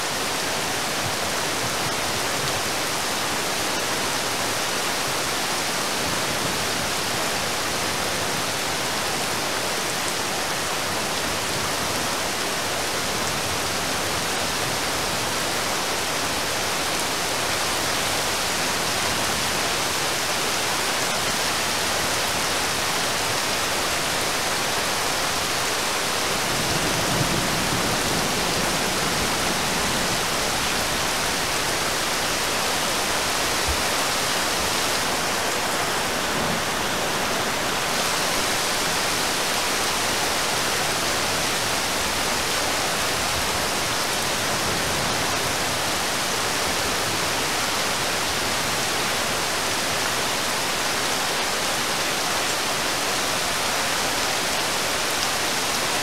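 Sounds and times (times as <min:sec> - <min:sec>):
heavy rain on river: 0:00.0 - 0:56.0.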